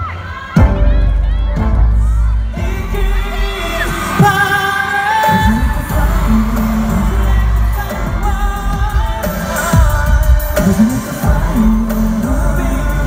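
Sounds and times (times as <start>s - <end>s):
backing track with heavy bass: 0.0s - 13.0s
man singing pop song: 0.0s - 13.0s.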